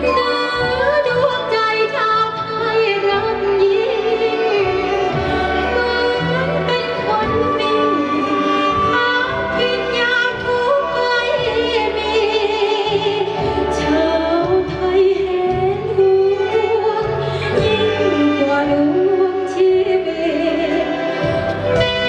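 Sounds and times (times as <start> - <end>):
instrumental backing music: 0.0 - 22.0
woman singing with vibrato: 0.0 - 22.0.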